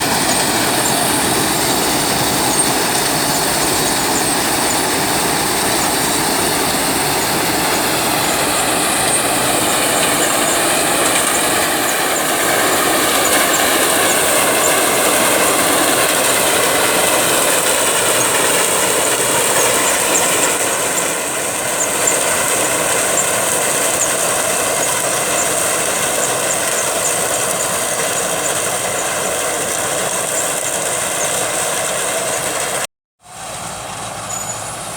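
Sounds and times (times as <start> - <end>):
crawler tracks: 0.0 - 32.8
combine harvester engine: 0.0 - 34.9.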